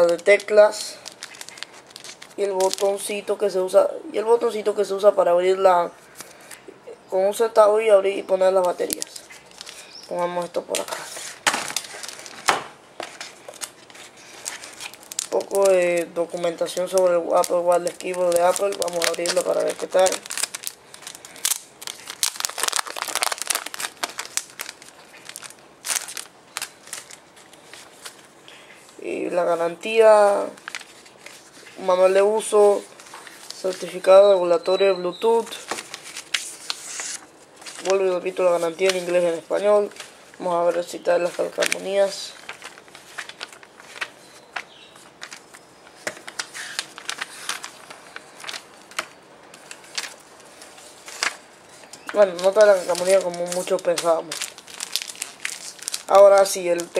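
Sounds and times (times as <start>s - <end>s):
paper pages rustling: 0.0s - 3.2s, 8.5s - 28.3s, 30.1s - 34.3s, 35.3s - 56.9s
plastic wrapping crinkling: 0.0s - 3.4s, 8.5s - 29.0s, 29.8s - 34.4s, 35.2s - 56.9s.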